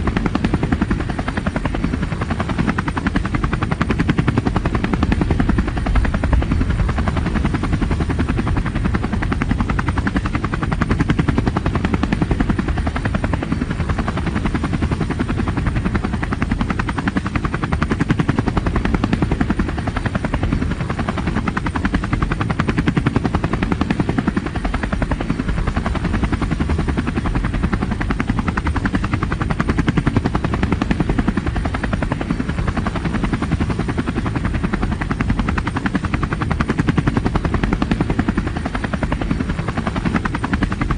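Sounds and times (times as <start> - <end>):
helicopter rotor and turbine rumble: 0.0 - 40.9.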